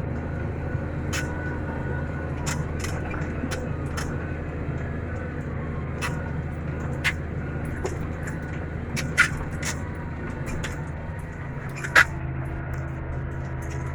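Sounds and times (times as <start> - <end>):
tractor engine running: 0.0 - 13.9.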